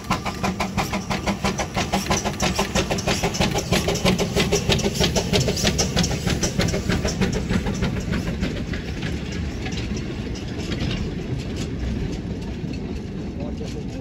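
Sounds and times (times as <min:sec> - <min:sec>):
low train rumble: 0:00.0 - 0:14.0
train wheels clicking over rail joints: 0:00.0 - 0:14.0.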